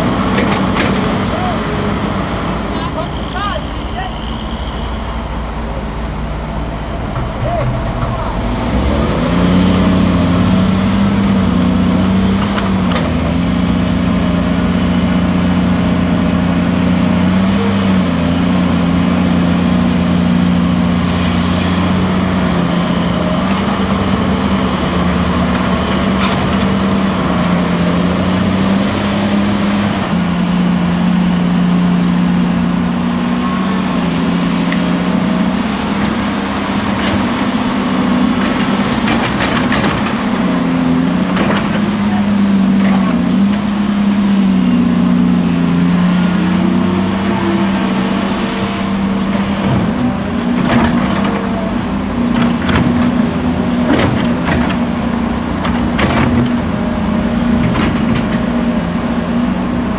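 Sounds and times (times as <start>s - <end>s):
excavator diesel engine under load: 0.0s - 59.9s.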